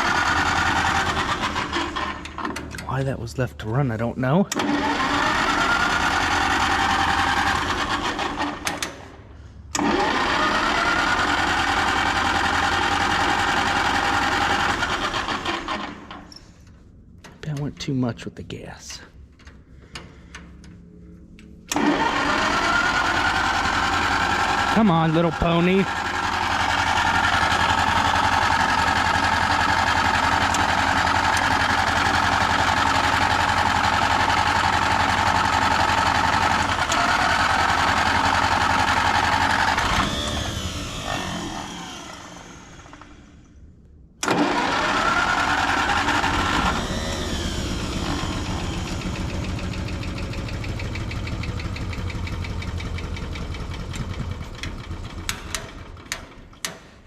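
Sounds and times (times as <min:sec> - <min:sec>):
starter cranking engine: 0:00.0 - 0:03.1, 0:04.5 - 0:09.1, 0:09.7 - 0:16.3, 0:21.7 - 0:43.3, 0:44.2 - 0:56.8.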